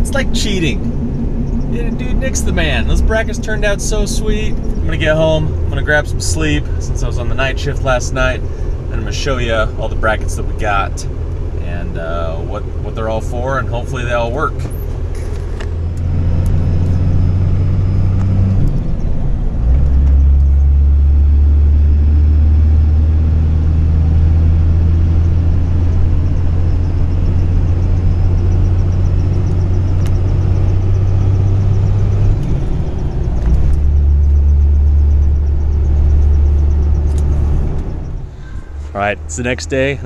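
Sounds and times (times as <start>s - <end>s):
truck engine and road drone: 0.0s - 40.0s.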